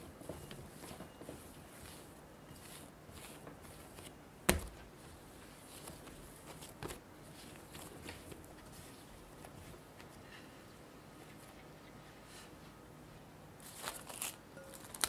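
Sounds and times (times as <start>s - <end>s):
hands kneading dough: 0.0s - 12.8s.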